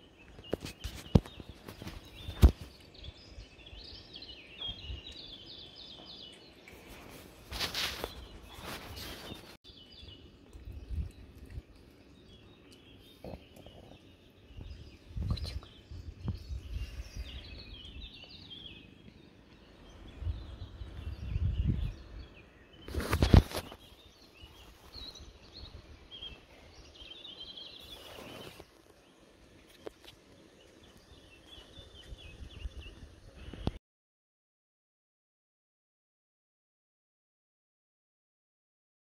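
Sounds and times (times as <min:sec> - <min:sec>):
small birds chirping: 0:00.0 - 0:33.8.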